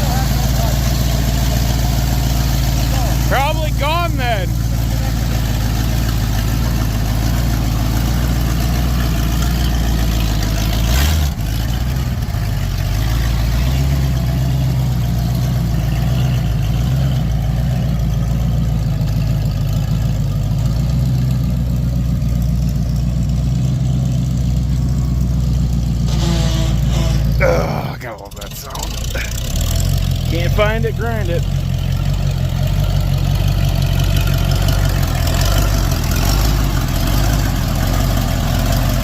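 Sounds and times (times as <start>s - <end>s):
truck engine running rough: 0.0s - 39.0s.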